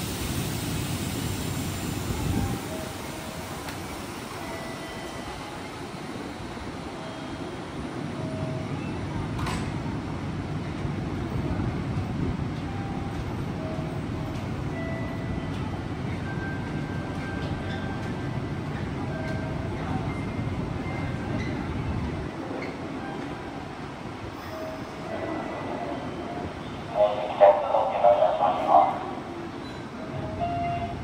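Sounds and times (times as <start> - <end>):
train rumble and wheel noise: 0.0 - 31.0.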